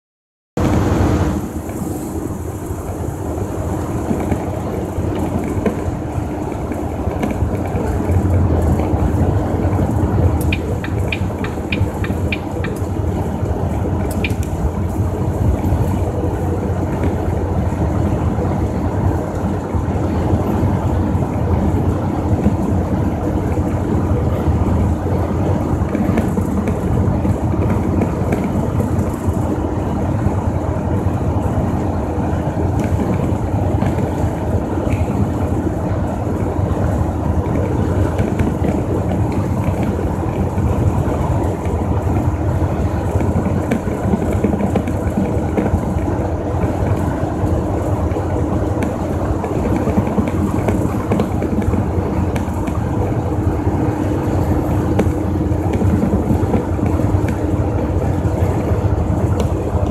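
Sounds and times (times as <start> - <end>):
truck engine and tyres droning: 0.6 - 59.9.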